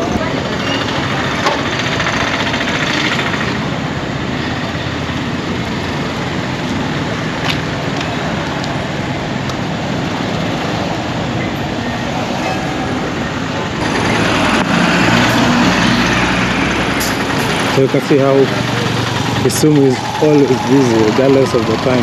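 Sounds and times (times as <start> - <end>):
rushing street noise: 0.0 - 22.0.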